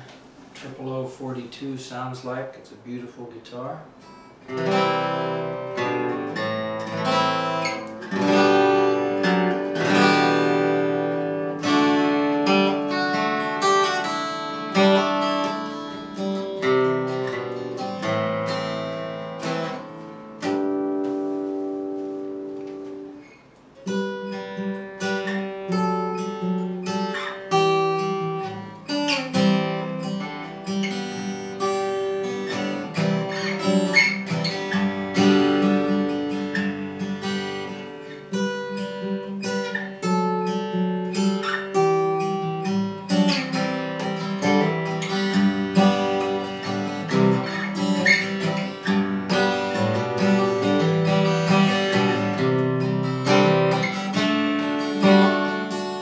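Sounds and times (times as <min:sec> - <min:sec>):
acoustic guitar fingerstyle: 0:00.0 - 0:56.0.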